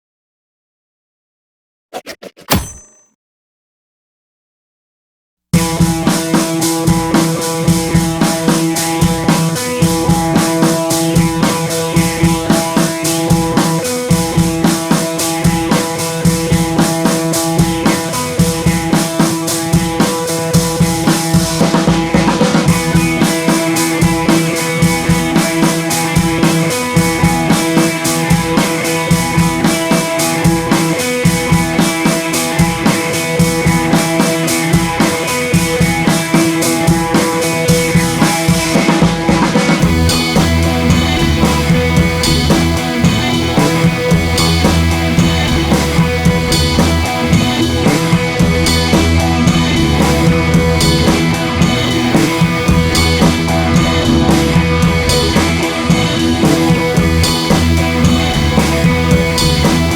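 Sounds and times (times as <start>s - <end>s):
drum kit beat: 5.6s - 59.9s.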